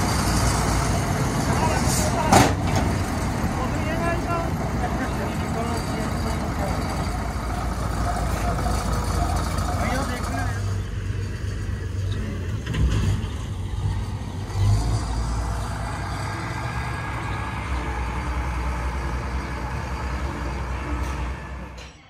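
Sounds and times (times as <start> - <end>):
combine harvester engine rumble: 0.0 - 22.0.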